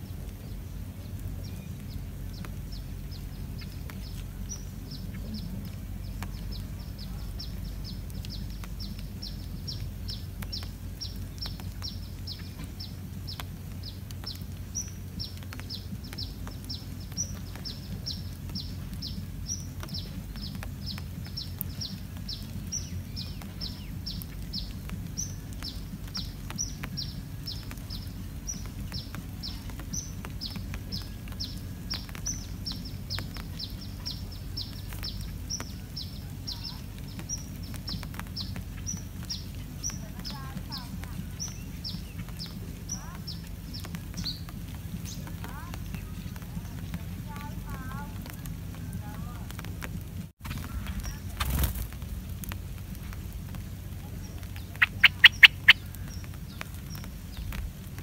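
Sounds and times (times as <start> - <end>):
bird chirping rapidly: 0.0 - 49.6, 53.5 - 57.6
low background rumble: 0.0 - 58.0.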